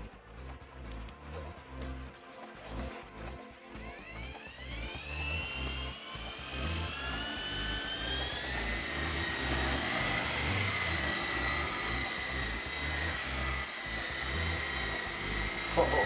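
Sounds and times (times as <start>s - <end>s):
rc helicopter motor whine: 0.0s - 16.0s.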